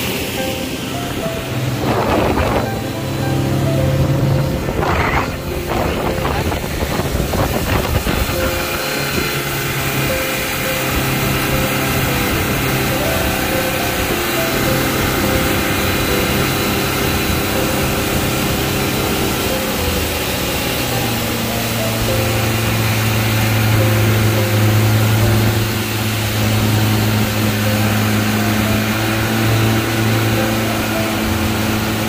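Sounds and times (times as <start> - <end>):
outboard motor running: 0.0 - 32.0
rush of wind and water: 0.0 - 32.0.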